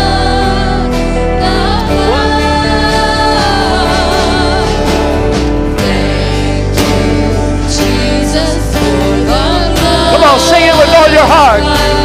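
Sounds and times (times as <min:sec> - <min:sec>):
guitars: 0:00.0 - 0:12.0
worship band playing: 0:00.0 - 0:12.0.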